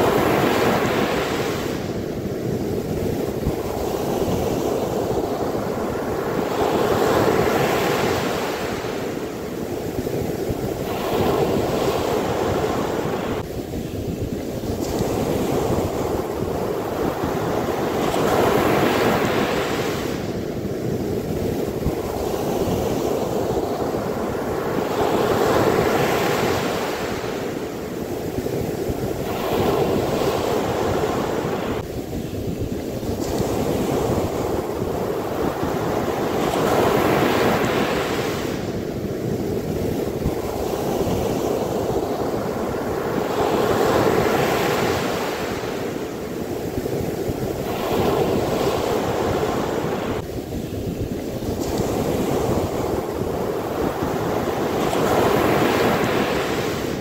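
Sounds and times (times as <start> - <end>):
sea waves breaking on sand: 0.0 - 57.0.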